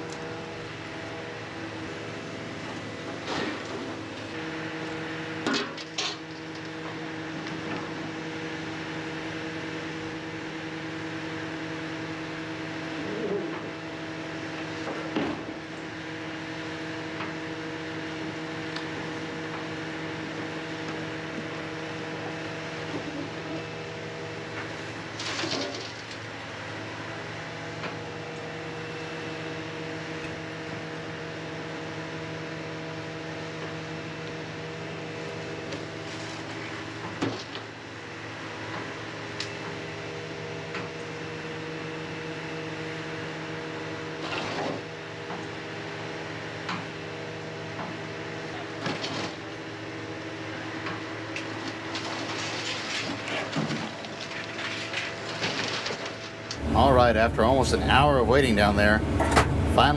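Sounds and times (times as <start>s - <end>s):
material handler engine hum: 0.0s - 59.9s.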